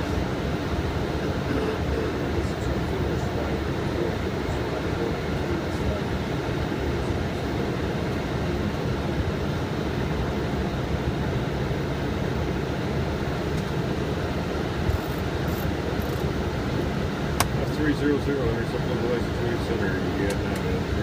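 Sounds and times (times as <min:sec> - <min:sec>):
airflow and air conditioning rumble: 0:00.0 - 0:21.0.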